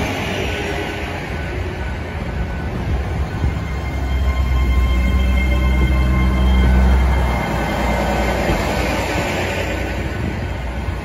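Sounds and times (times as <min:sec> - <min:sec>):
passenger train rumbling past: 0:00.0 - 0:11.0.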